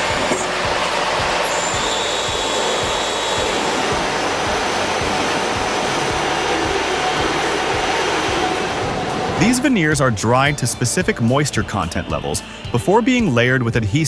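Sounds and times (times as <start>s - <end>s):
industrial machinery running: 0.0s - 14.0s.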